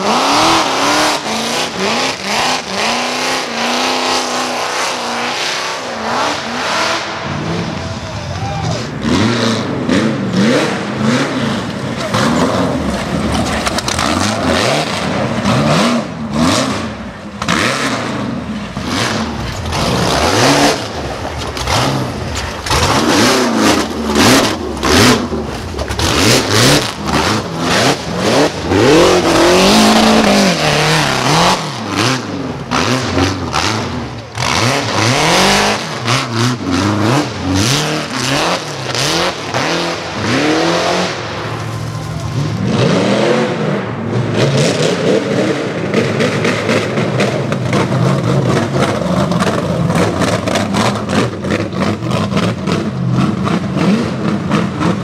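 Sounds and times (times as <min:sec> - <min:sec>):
buggy engine revving hard: 0:00.0 - 0:55.0.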